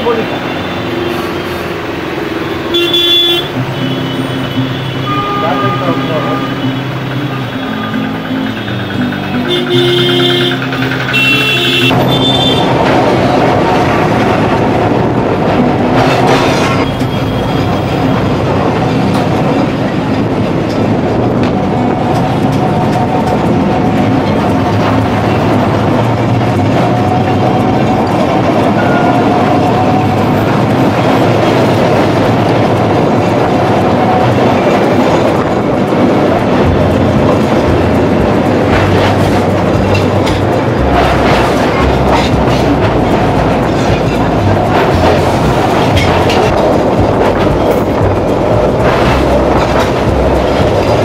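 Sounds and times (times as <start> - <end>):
tram wheels rumbling on rails: 0.0 - 51.0
sharp clacks: 3.4 - 51.0
tram wheel clicks: 3.5 - 51.0.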